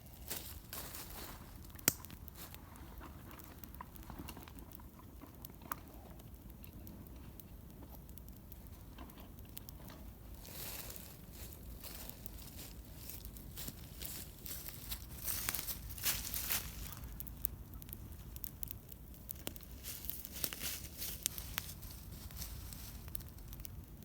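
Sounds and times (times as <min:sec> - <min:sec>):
campfire crackling: 0:00.0 - 0:24.0
fire pops: 0:00.0 - 0:24.0
low steady rumble: 0:00.0 - 0:24.0.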